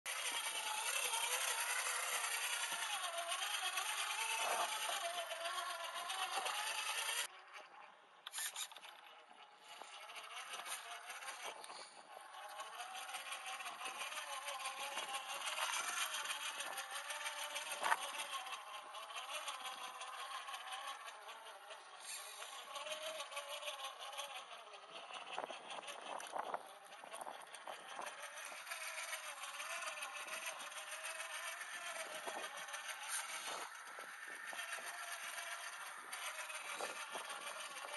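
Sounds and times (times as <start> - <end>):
electric motor and gears whining: 0.1 - 37.9.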